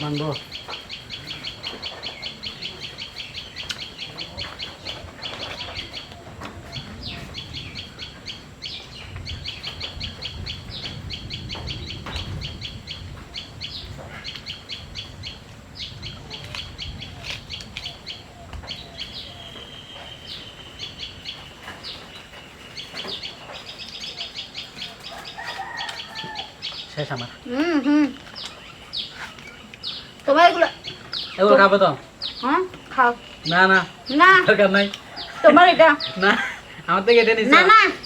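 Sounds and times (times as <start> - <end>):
small birds chirping in trills: 0.0 - 38.0.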